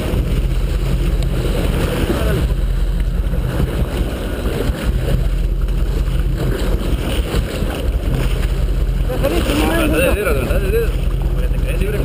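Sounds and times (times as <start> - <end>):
boat engine humming: 0.0 - 12.0
water splashing against hull: 0.0 - 12.0.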